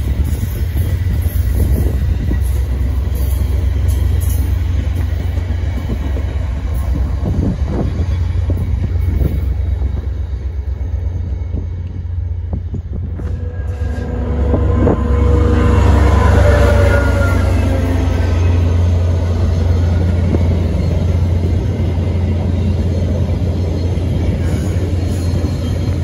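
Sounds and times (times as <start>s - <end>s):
rail clicks: 0.0s - 26.0s
train wheels rumbling on rails: 0.0s - 26.0s.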